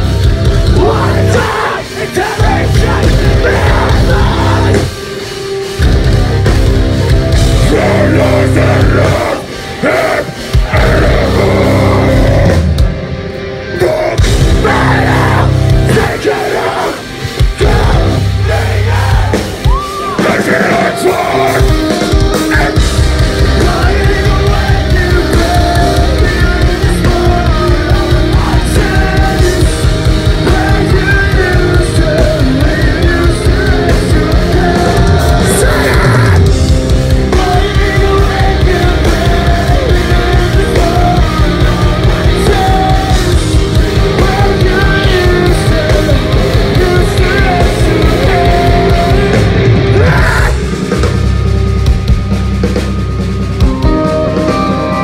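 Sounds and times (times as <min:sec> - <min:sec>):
fast drumming: 0:00.0 - 0:12.9, 0:13.8 - 0:54.8
rock band playing live: 0:00.0 - 0:55.0
person singing and yelling: 0:00.6 - 0:05.0, 0:07.4 - 0:12.8, 0:13.7 - 0:50.8.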